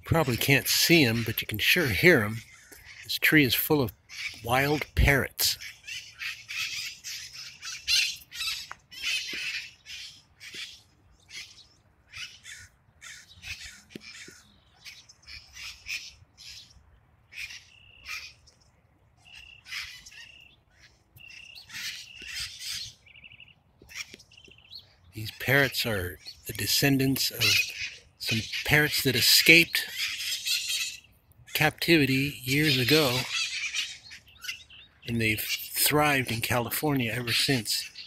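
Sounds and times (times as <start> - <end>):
parrots squawking: 0.3 - 16.7, 17.3 - 18.4, 19.2 - 38.0.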